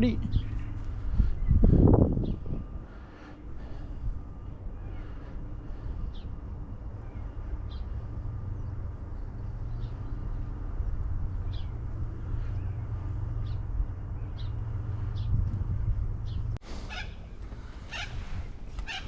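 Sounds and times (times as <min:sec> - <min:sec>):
low rumble: 0:00.0 - 0:18.9
bird chirping: 0:00.0 - 0:19.0.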